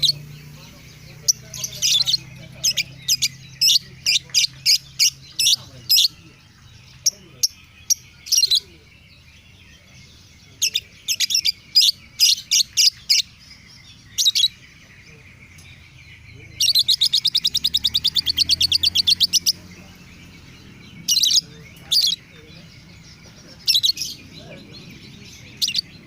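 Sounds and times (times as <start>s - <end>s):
lovebird chirping: 0.0s - 26.0s.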